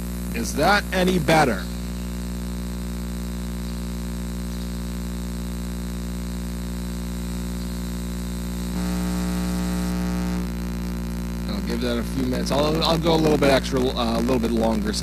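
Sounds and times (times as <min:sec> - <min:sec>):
electrical mains hum and buzz: 0:00.0 - 0:15.0.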